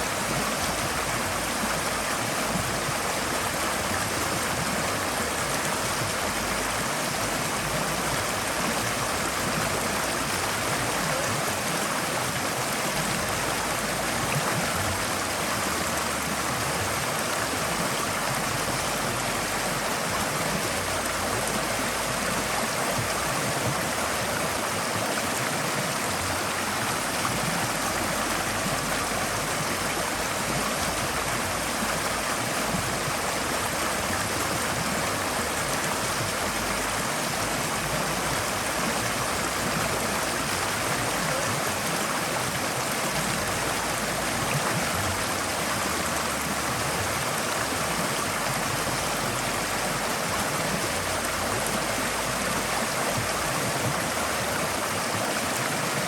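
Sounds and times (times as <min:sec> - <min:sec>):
stream water splashing over stones: 0:00.0 - 0:56.0.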